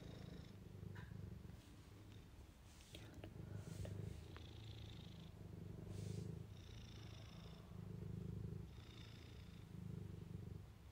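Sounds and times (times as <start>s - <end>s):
cat purring: 0.0s - 10.9s.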